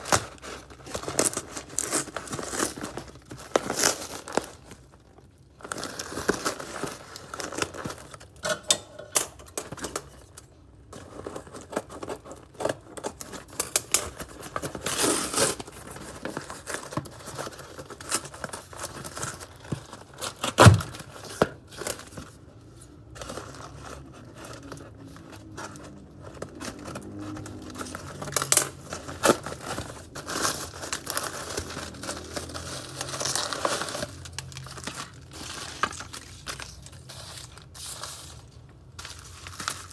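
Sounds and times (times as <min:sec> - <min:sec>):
packaging rustling and crackling: 0:00.0 - 0:08.5, 0:09.3 - 0:39.9.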